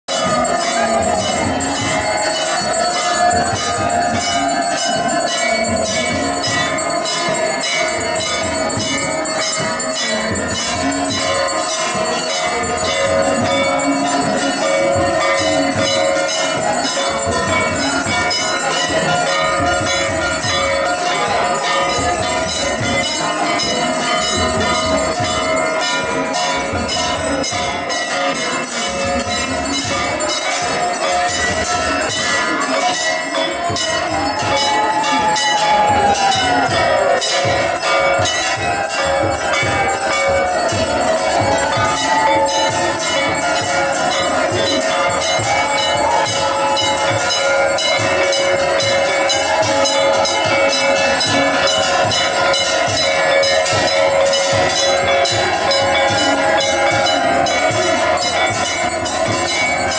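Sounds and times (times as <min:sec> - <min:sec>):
temple bells ringing rapidly: 0:00.0 - 0:59.9
devotional music: 0:00.1 - 0:59.9.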